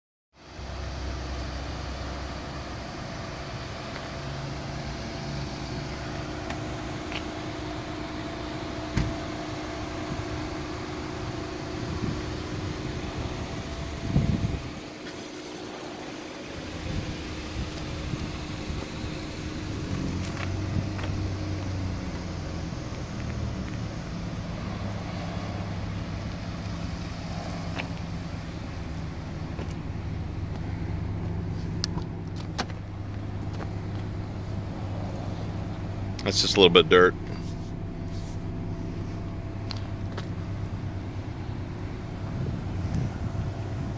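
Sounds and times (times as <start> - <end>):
low engine hum: 0.4 - 43.9.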